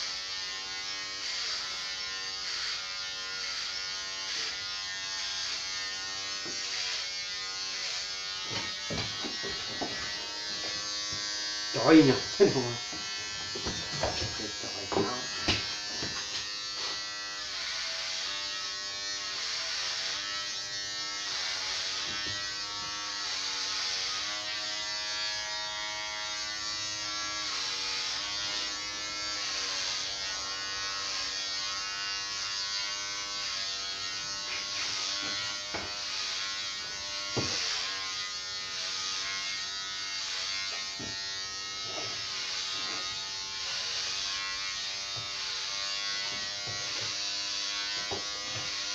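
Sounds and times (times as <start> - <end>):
electric clippers buzzing: 0.0 - 48.9.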